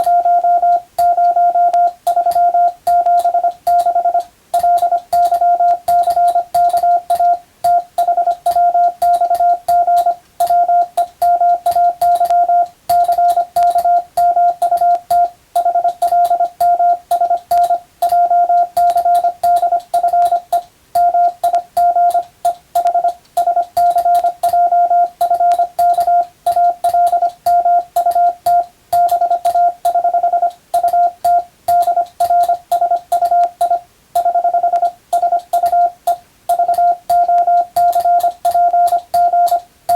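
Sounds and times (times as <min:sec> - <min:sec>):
morse code tone: 0:00.0 - 0:39.6.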